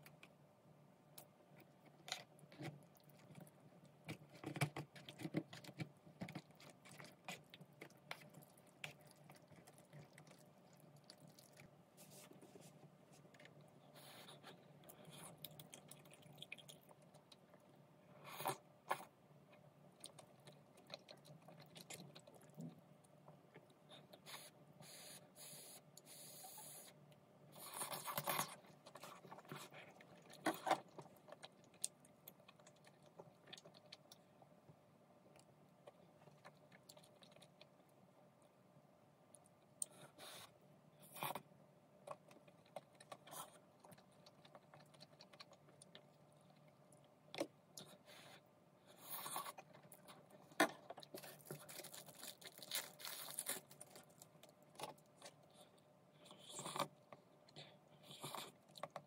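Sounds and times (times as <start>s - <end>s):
soft chewing: 0.0s - 38.6s, 39.2s - 59.0s.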